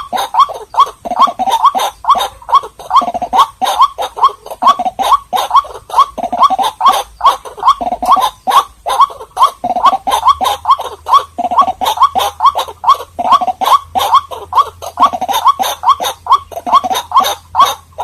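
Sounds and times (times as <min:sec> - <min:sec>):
waterhen croaking call: 0:00.0 - 0:18.0.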